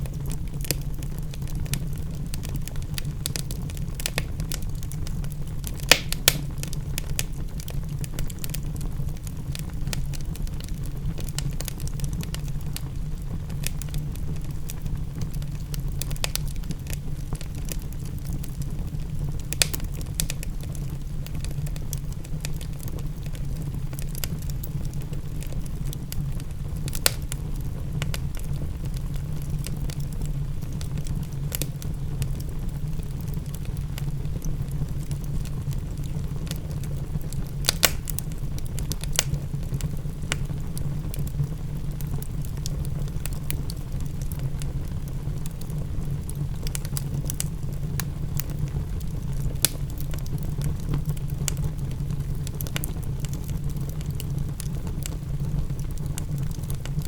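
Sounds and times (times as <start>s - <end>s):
wood fire crackling: 0.0s - 57.0s
wood fire pops and snaps: 0.0s - 57.0s.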